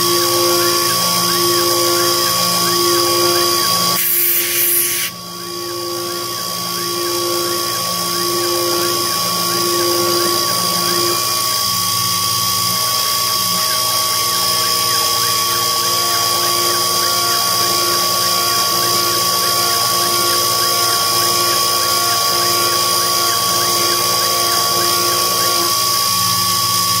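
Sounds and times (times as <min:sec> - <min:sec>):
milling machine spindle whine: 0:00.0 - 0:27.0.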